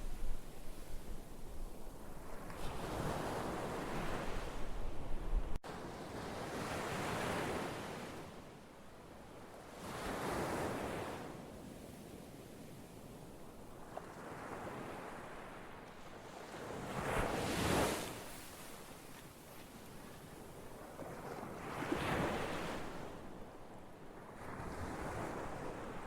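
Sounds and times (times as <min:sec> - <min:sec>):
ocean waves breaking on shore: 0:00.0 - 0:26.0.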